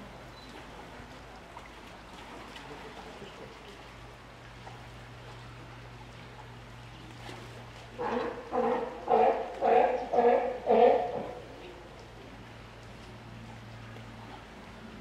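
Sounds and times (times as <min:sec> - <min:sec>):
low steady hum: 0:00.0 - 0:15.0
running water: 0:00.0 - 0:15.0.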